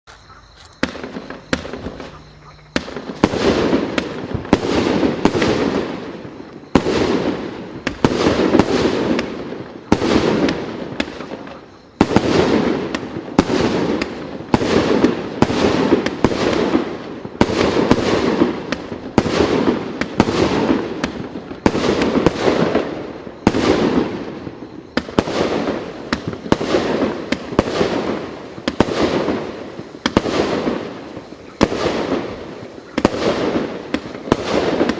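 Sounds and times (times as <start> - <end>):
fireworks firing sharp reports: 0.5 - 34.9.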